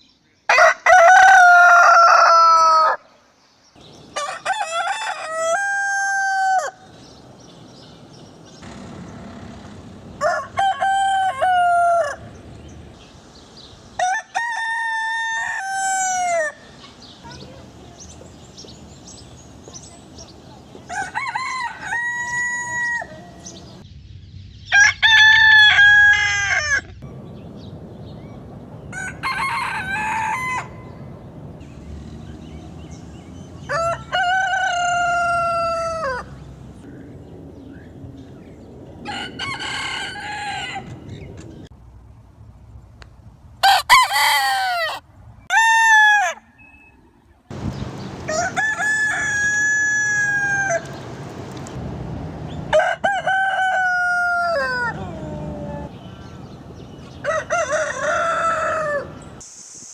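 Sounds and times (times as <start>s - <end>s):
roosters crowing: 0.5s - 3.1s, 3.8s - 23.8s, 24.7s - 27.0s, 28.8s - 36.8s, 39.0s - 41.7s, 43.6s - 46.9s, 47.5s - 51.2s, 52.5s - 59.4s.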